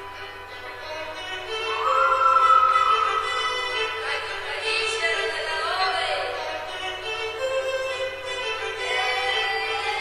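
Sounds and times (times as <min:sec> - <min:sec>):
melody of sustained notes: 0:00.0 - 0:10.0.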